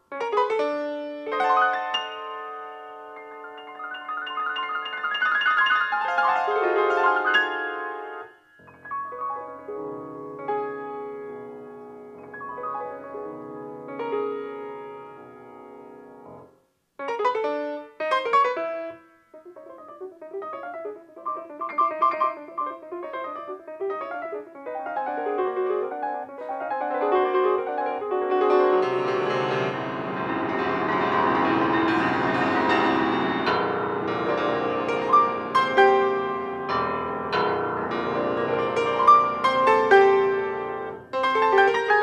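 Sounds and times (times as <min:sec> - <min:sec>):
piano chords: 0:00.0 - 0:42.0.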